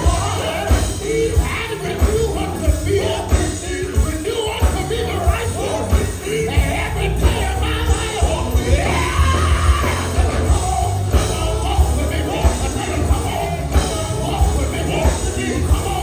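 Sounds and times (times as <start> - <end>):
gospel band playing: 0.0 - 16.0
person singing lead: 0.0 - 16.0.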